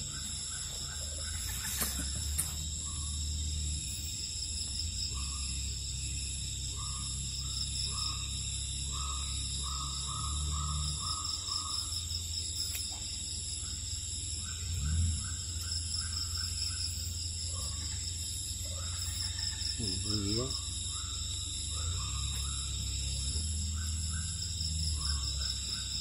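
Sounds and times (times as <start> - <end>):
high insect-like drone: 0.0 - 26.0.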